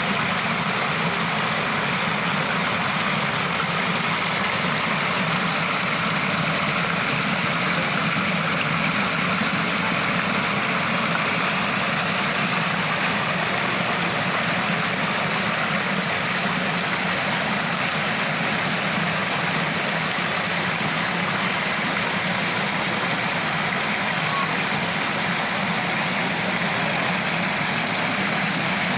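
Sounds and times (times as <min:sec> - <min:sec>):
small waterfall splashing: 0:00.0 - 0:28.9.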